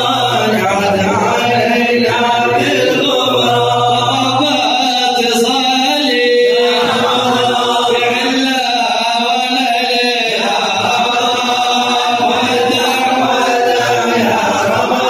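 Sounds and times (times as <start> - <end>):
crowd of men chanting: 0.0 - 15.0.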